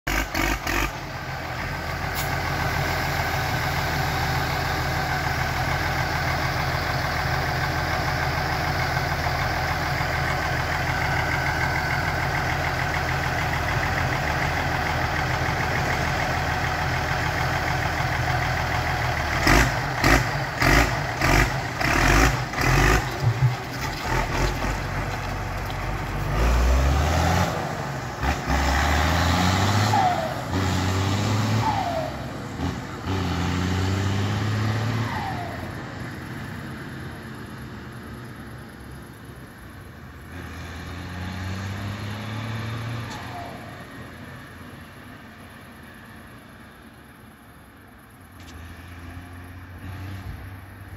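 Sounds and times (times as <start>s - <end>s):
tractor engine idling and revving: 0.0s - 50.9s.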